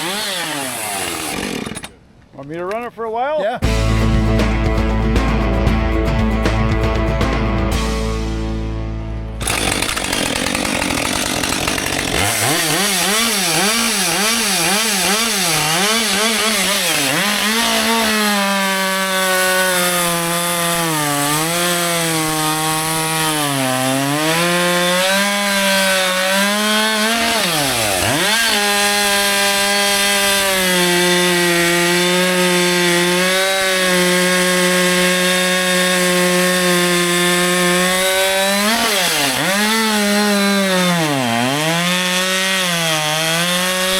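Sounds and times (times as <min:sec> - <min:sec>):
chainsaw cutting wood: 0:00.0 - 0:02.0, 0:09.4 - 0:43.9.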